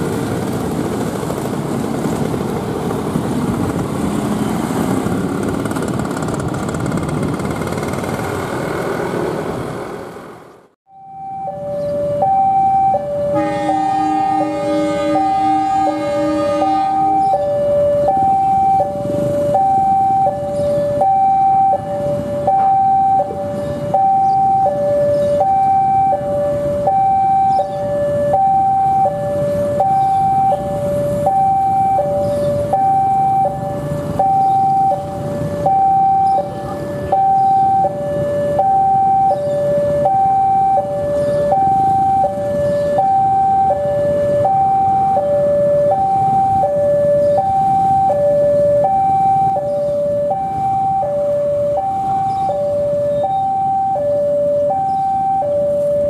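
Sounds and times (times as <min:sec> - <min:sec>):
two-tone warning alarm: 0:10.9 - 0:56.0.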